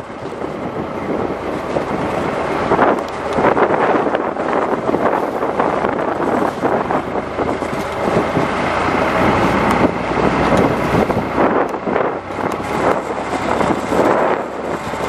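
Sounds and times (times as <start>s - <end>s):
boat engine rumble: 0.0s - 15.0s
water rushing past hull: 0.0s - 15.0s
wind buffeting microphone: 0.0s - 15.0s.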